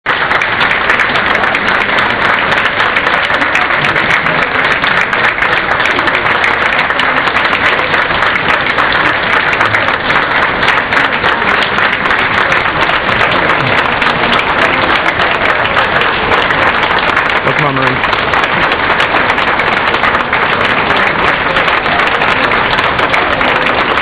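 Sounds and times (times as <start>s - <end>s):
crowd applauding: 0.1s - 24.0s.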